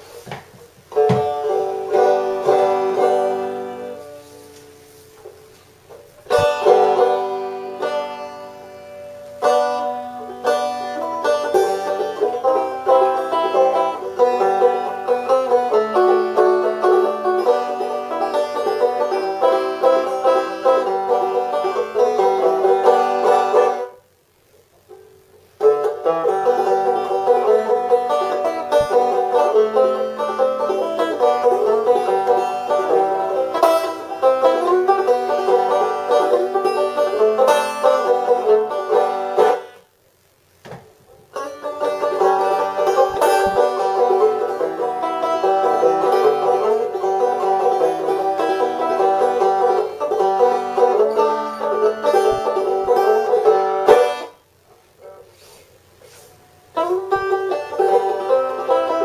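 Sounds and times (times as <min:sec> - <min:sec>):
banjo picking: 0:00.0 - 0:24.0, 0:24.9 - 0:39.9, 0:41.1 - 0:59.0.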